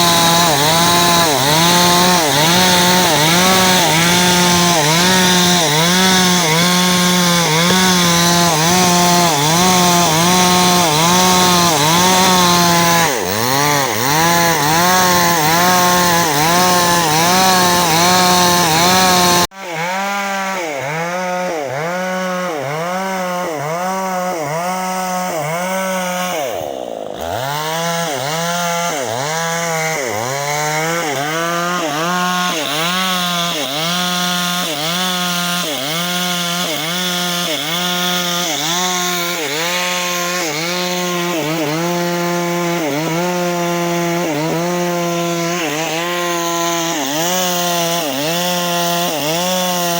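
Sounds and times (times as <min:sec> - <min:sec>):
chainsaw cutting timber: 0:00.0 - 0:49.9.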